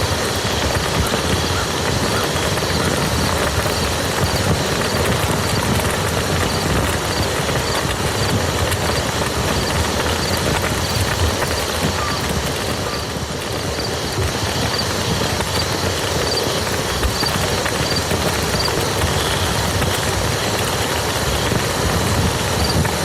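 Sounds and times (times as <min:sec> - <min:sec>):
rain pattering on mud: 0:00.0 - 0:23.0.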